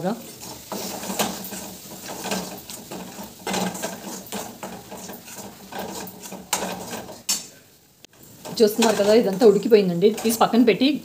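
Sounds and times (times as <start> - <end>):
metal spatula scraping steel pan: 0.0 - 7.6, 8.2 - 10.6.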